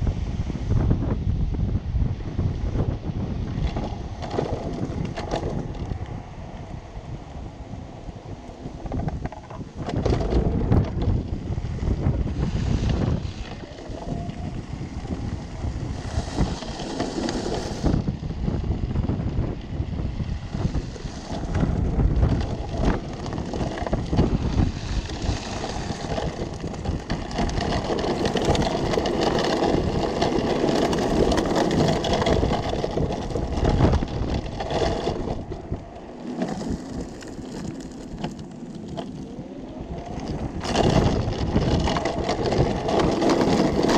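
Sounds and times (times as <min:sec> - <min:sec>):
small tyres rumbling and rattling: 0:00.0 - 0:43.9
wind buffeting microphone: 0:00.0 - 0:43.9.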